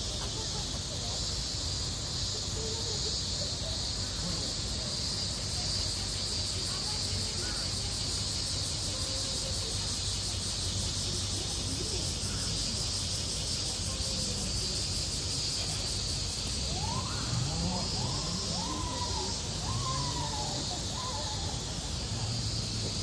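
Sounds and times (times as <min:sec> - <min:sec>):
faint distant voices: 0:00.0 - 0:23.0
high-pitched insect drone: 0:00.0 - 0:23.0.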